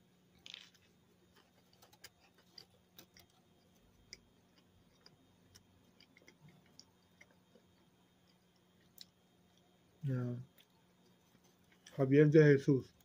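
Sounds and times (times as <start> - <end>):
faint steady hum: 0.0 - 13.0
mouth chewing crispy food: 0.4 - 9.8, 10.4 - 12.1.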